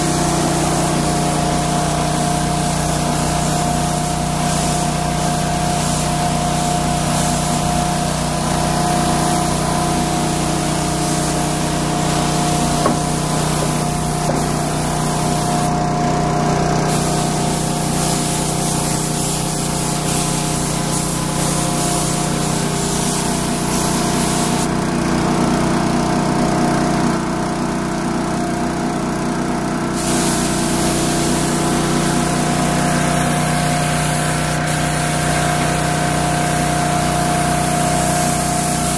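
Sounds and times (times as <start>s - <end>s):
spray gun hissing: 0.0s - 16.2s, 16.8s - 24.8s, 30.0s - 38.9s.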